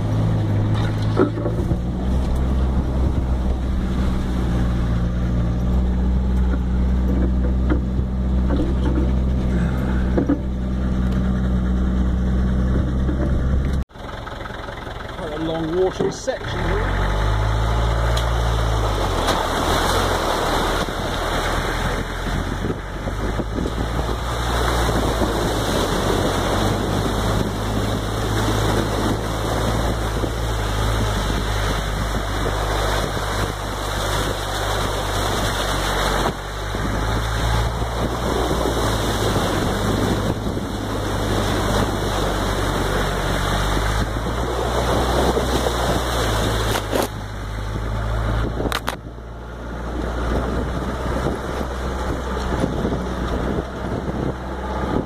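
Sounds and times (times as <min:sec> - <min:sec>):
truck engine running: 0:00.0 - 0:55.0
water splashing against vehicle: 0:00.0 - 0:55.0.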